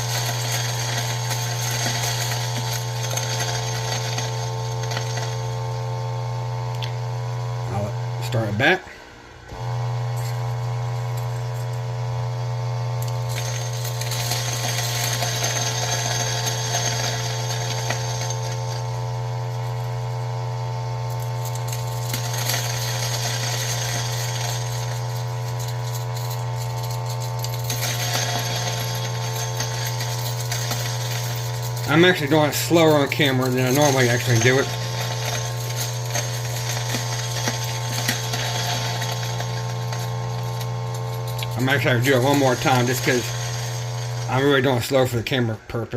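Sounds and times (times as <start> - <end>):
coffee beans crunching: 0.0 - 5.8, 13.0 - 20.0, 21.0 - 45.1
grinder motor humming: 0.0 - 45.4.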